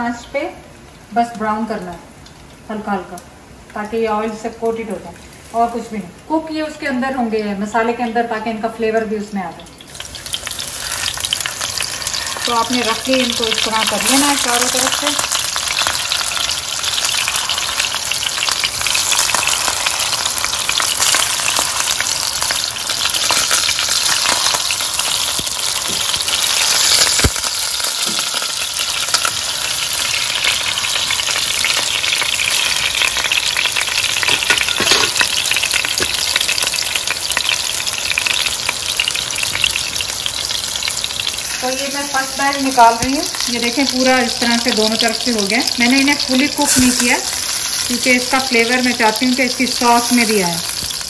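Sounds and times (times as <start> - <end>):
meatballs sizzling in a pan: 9.7 - 51.0.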